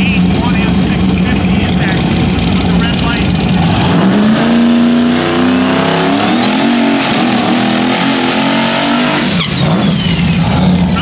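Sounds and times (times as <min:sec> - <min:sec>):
drag-race engine revving: 0:00.0 - 0:11.0.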